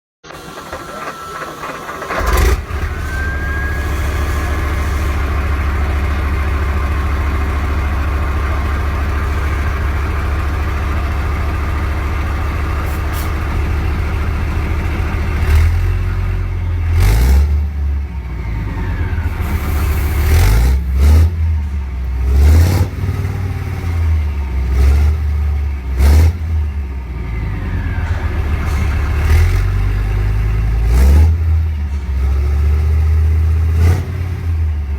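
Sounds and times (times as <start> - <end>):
tank engine starting and revving: 0.2 - 34.9.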